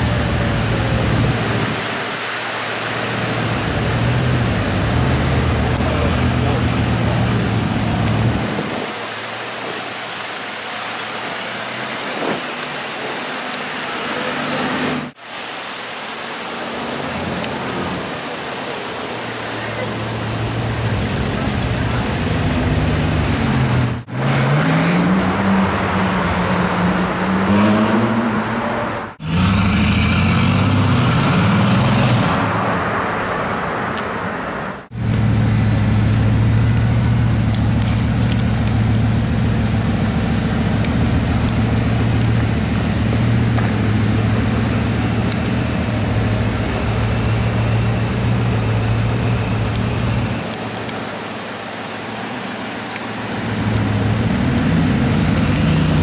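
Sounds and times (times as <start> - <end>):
car engine revving: 0.0 - 15.2, 16.6 - 56.0.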